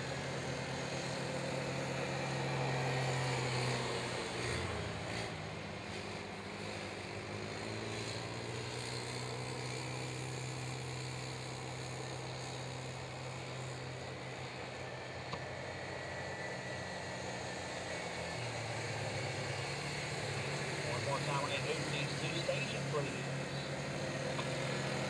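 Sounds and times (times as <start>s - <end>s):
quad engines droning: 0.0s - 25.0s.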